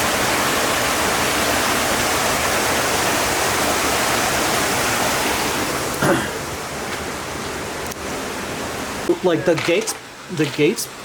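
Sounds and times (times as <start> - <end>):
rain: 0.0 - 11.0
rushing floodwater: 0.0 - 11.0.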